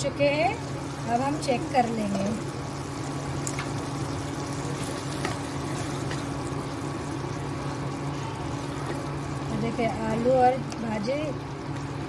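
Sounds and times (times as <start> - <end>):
curry simmering and bubbling in a pan: 0.0 - 12.0
low steady hum: 0.0 - 12.0.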